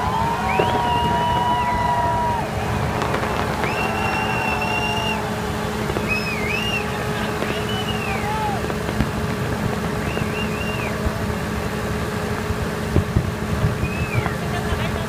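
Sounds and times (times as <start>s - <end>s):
fireworks bursts rumbling: 0.0s - 15.0s
fireworks sharp cracks: 0.0s - 15.0s
fireworks whistling: 0.0s - 15.0s.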